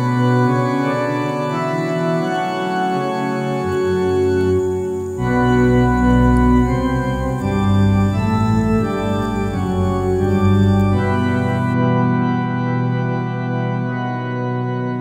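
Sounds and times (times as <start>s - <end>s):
electric organ chords: 0.0s - 15.0s.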